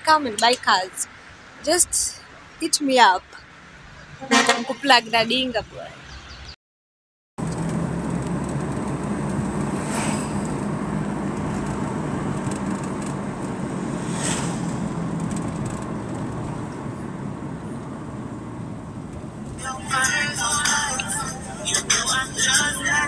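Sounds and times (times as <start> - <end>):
car engine and road noise: 0.0 - 6.6, 7.4 - 23.0.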